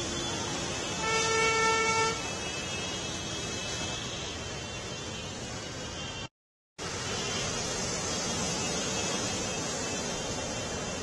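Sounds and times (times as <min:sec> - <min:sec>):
vehicles splashing through floodwater: 0:00.0 - 0:11.0.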